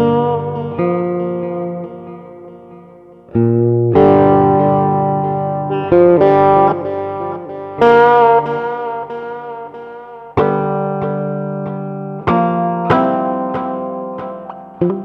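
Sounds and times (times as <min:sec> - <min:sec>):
distorted electric guitar chords: 0:00.0 - 0:15.0.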